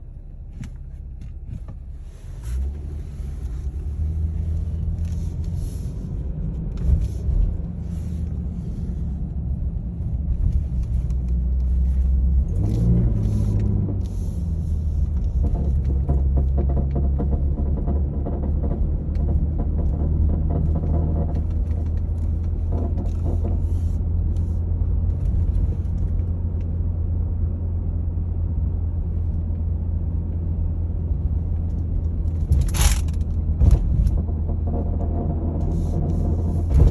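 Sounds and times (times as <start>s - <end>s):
car engine rumbling: 0.0s - 36.9s.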